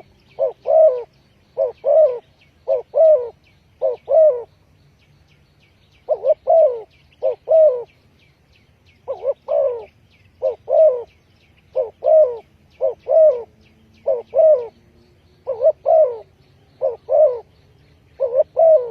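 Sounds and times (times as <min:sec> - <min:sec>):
dove cooing: 0:00.0 - 0:04.5, 0:06.0 - 0:08.0, 0:09.0 - 0:14.8, 0:15.4 - 0:18.9.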